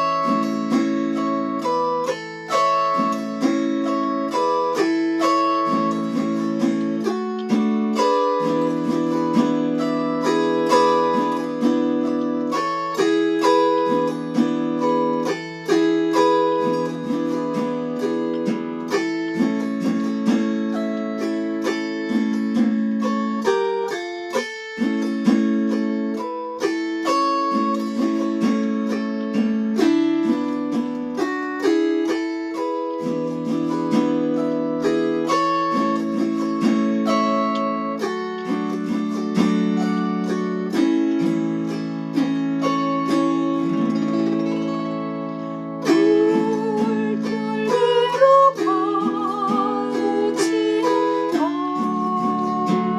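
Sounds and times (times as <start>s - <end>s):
autoharp playing hymn melody: 0.0s - 52.9s.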